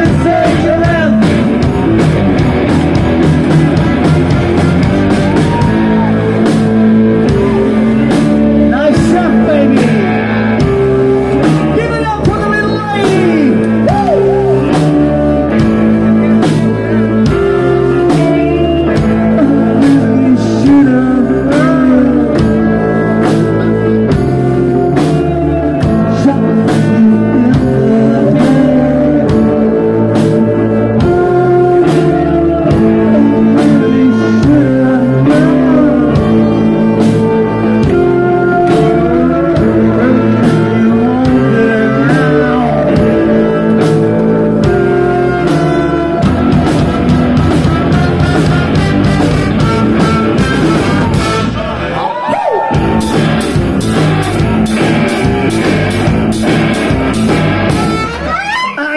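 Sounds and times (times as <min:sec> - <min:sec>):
drums beating: 0:00.0 - 0:58.9
electric guitars: 0:00.0 - 0:58.9
live rock band: 0:00.0 - 0:58.9
horn section: 0:03.2 - 0:58.9.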